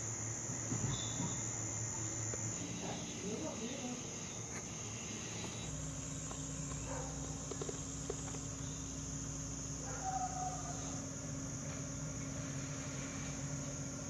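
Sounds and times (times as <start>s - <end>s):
insects chirring: 0.0s - 14.0s
low electrical hum: 0.0s - 14.0s.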